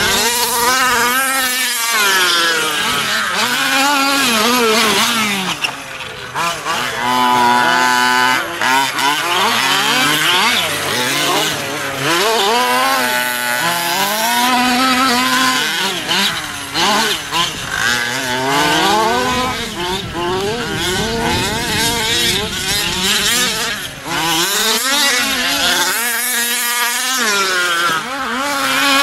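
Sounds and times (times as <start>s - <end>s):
small two-stroke engines revving: 0.0s - 29.0s.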